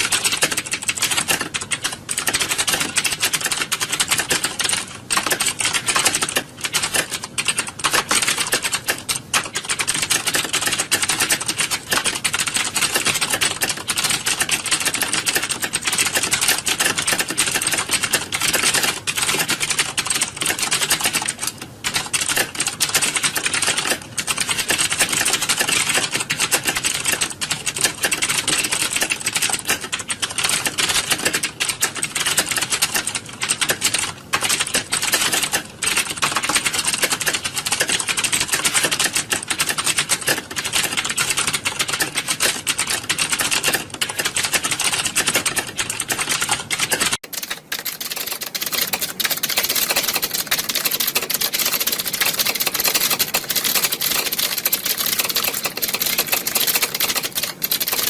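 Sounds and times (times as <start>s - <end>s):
fast keyboard typing: 0.0s - 58.0s.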